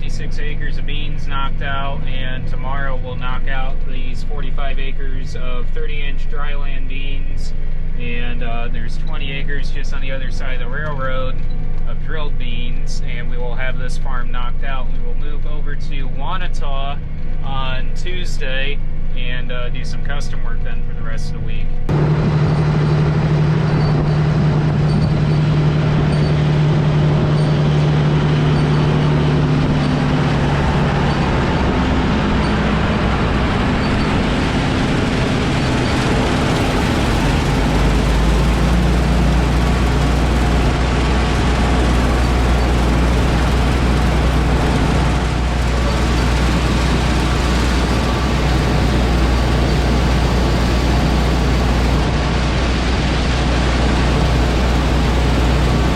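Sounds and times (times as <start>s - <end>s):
heavy machinery engine running: 0.0s - 20.2s, 21.4s - 55.9s
deep low hum: 0.0s - 55.9s.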